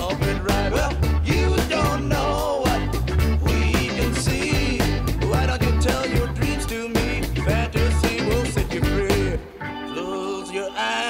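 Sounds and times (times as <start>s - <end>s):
song with drum beat and heavy bass: 0.0s - 9.7s.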